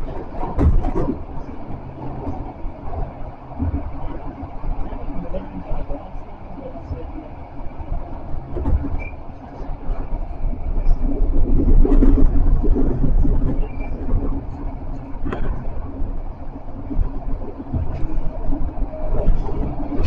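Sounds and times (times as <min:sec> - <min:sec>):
constant hum: 0:00.0 - 0:20.0
tram wheels rumbling on rails: 0:00.0 - 0:20.0.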